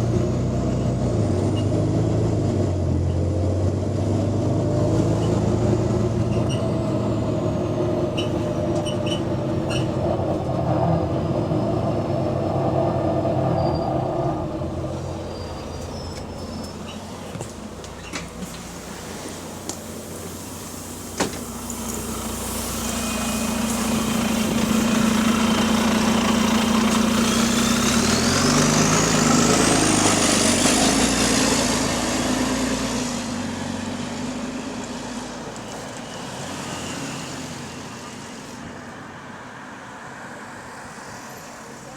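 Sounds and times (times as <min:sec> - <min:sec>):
bus engine with exhaust leak: 0:00.0 - 0:41.9.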